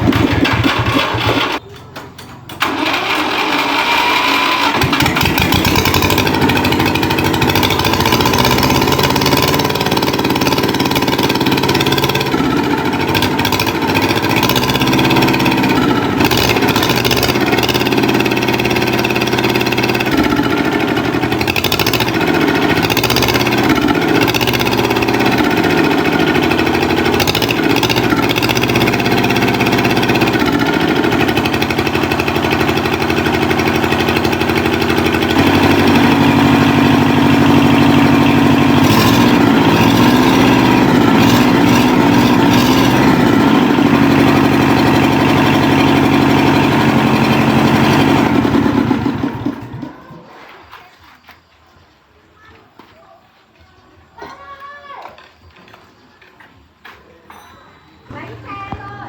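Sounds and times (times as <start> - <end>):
tractor engine revving: 0.0 - 50.6.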